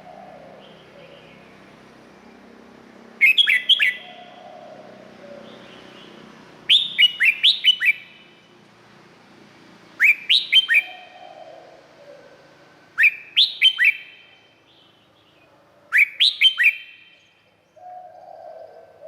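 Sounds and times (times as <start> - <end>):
bird singing: 0.0 - 8.6, 10.0 - 19.0.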